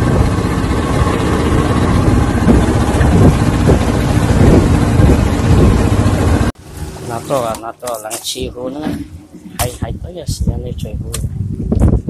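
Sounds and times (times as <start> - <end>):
wind on microphone: 0.0 - 6.5, 8.4 - 12.0
boat engine running: 0.0 - 12.0.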